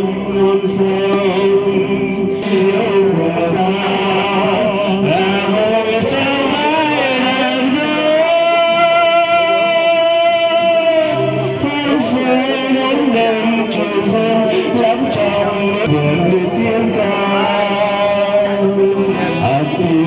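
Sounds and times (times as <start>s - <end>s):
man and woman singing duet: 0.0s - 20.0s.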